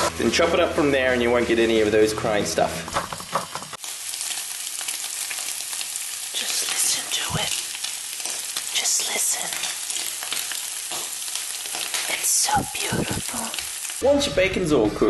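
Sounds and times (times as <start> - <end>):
bacon sizzling in a pan: 0.0 - 14.1.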